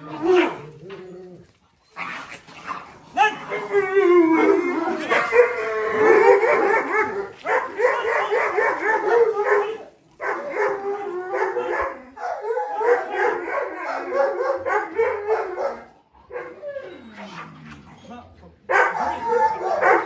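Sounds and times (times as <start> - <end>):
dogs yapping and yelping: 0.0 - 17.9, 18.7 - 20.0.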